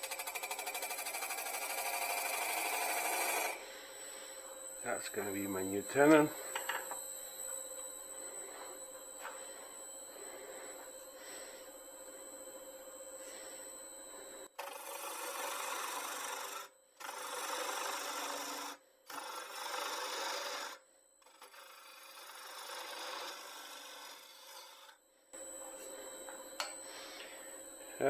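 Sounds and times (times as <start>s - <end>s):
lathe humming: 0.0s - 28.0s
turning tool cutting wood: 0.0s - 28.0s.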